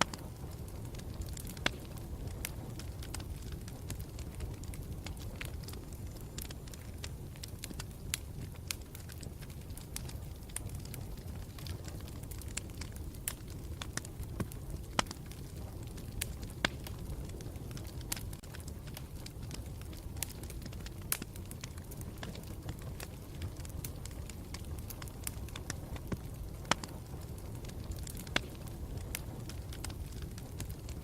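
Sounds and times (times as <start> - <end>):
burning wood crackling and popping: 0.0 - 31.0
campfire rumble: 0.0 - 31.0.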